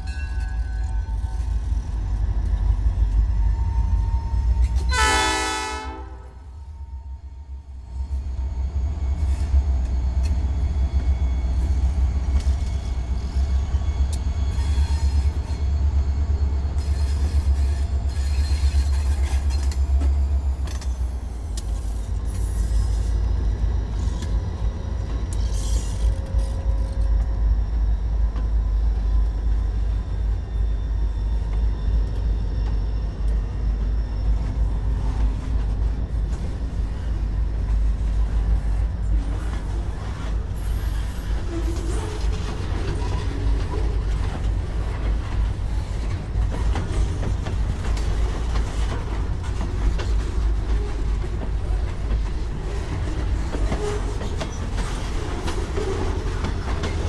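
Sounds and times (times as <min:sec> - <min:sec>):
freight cars rolling on rails: 0:08.1 - 0:57.0.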